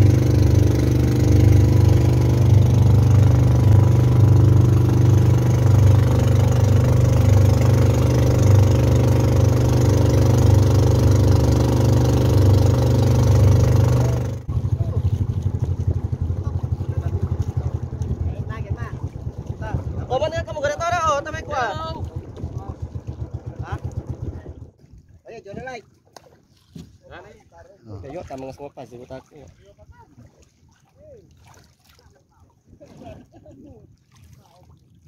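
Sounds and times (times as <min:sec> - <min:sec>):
boat engine running: 0:00.0 - 0:30.6
water rushing past hull: 0:00.0 - 0:35.0.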